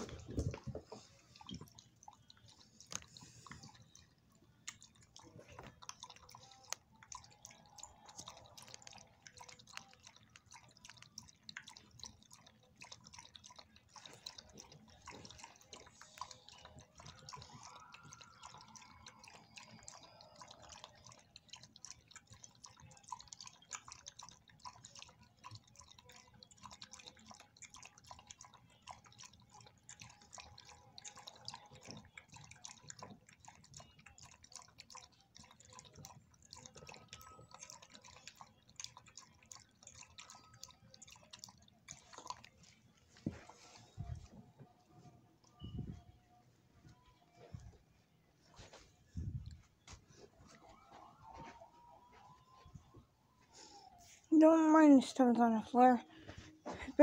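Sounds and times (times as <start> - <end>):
dog lapping water: 0.0 - 46.0.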